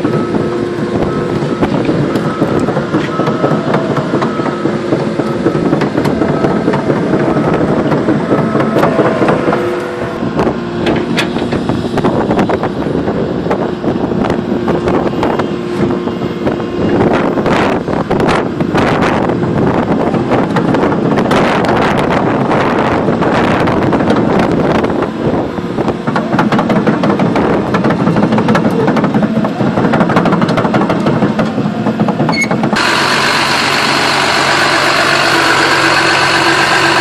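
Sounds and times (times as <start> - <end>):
steady held tone: 0.0 - 26.3, 32.3 - 37.0
excavator running: 0.0 - 37.0.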